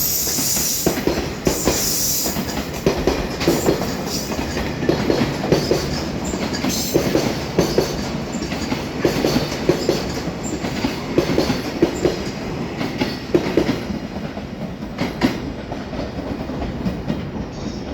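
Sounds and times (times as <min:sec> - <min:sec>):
train wheels clacking over rail joints: 0:00.0 - 0:17.9.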